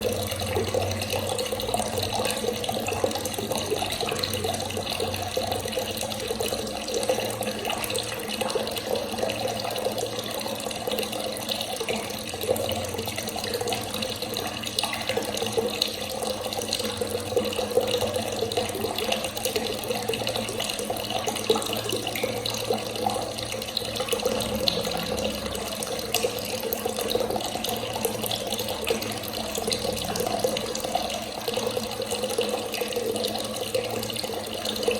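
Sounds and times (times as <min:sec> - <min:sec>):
water running from a tap: 0:00.0 - 0:34.9.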